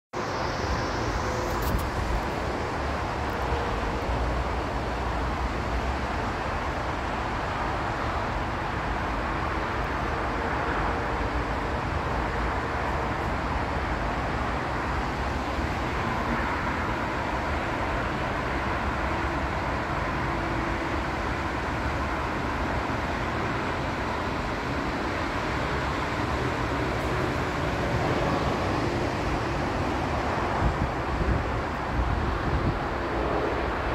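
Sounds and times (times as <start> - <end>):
outdoor background rumble with hiss: 0.2 - 33.9.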